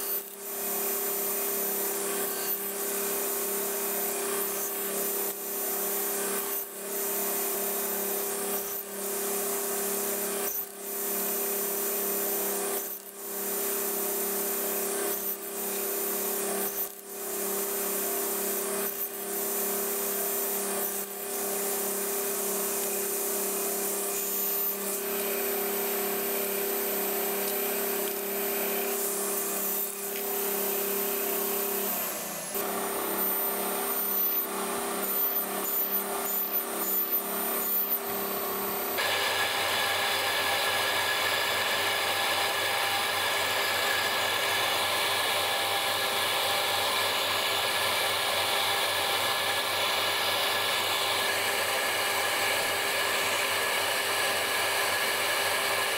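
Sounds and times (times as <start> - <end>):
electric power tool motor: 0.0 - 55.9.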